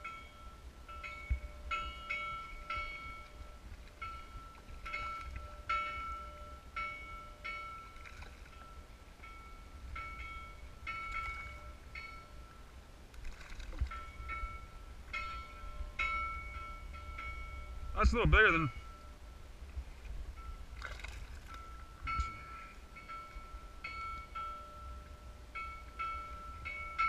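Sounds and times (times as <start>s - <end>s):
low rumble of wind and water: 0.0s - 27.0s.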